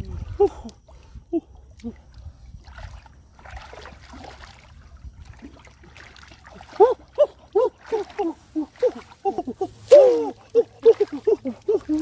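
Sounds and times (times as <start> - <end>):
muddy water sloshing: 0.0 - 12.0.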